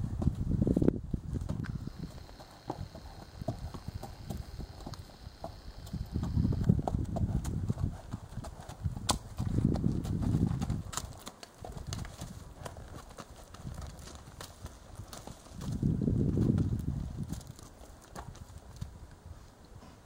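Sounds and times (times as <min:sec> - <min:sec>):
hooves clip-clopping on dirt: 0:00.0 - 0:20.0.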